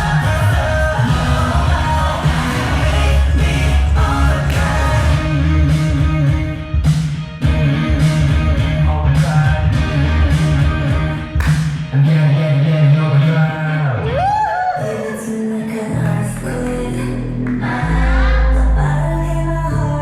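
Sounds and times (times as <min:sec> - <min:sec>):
person singing: 0:00.0 - 0:06.7, 0:07.4 - 0:20.0
heavy bass line and beat: 0:00.0 - 0:20.0.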